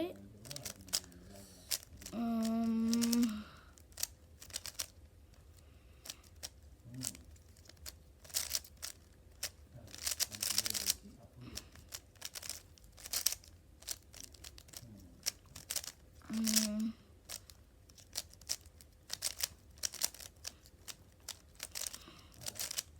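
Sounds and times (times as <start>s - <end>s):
plastic puzzle cube clicking: 0.4s - 5.0s, 6.0s - 11.0s, 11.6s - 22.9s.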